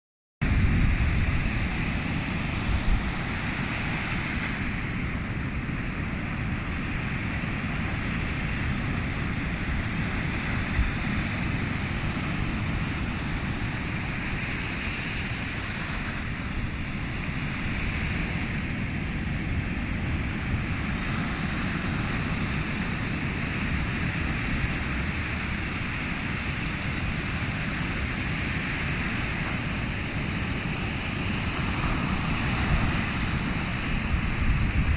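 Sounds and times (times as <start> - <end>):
sea surf washing ashore: 0.4 - 34.9
wind rumble on microphone: 0.4 - 34.9.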